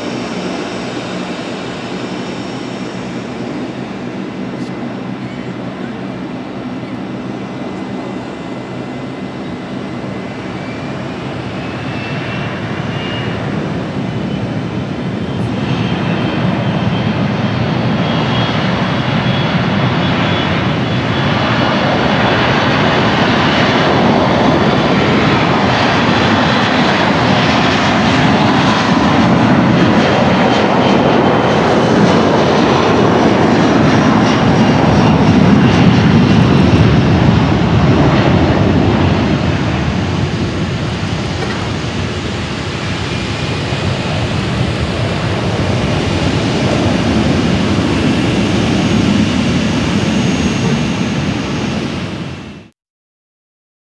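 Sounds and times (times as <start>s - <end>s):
jet engine roar: 0.0s - 52.7s.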